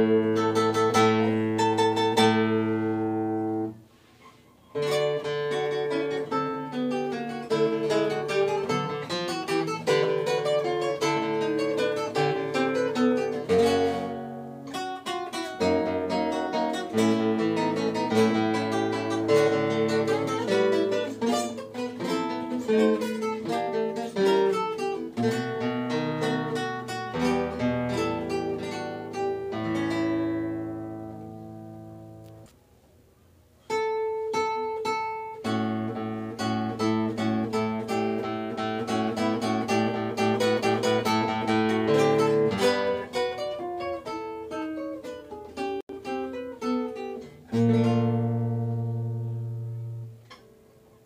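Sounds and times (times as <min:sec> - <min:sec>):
plucked guitar music: 0:00.0 - 0:32.6, 0:33.6 - 0:51.0.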